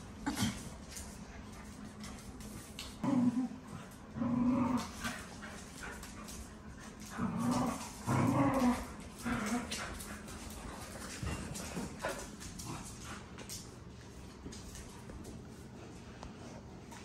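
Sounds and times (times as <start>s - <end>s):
dogs growling in play: 0.1s - 17.0s.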